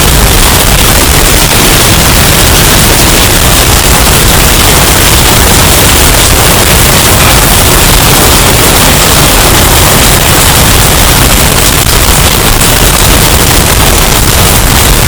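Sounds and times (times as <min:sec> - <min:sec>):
distorted hurricane wind roar: 0:00.0 - 0:15.0.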